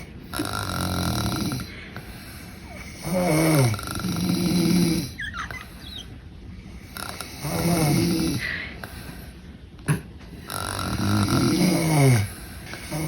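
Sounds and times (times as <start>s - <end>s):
buzzy snoring: 0.0s - 6.1s, 6.7s - 8.7s, 10.4s - 13.0s.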